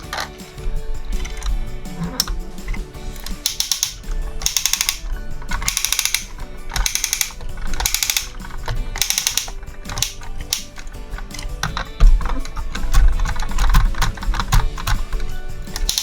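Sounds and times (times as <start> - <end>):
background music with beat: 0.0 - 16.0
rapid high-pitched clicking: 0.0 - 16.0.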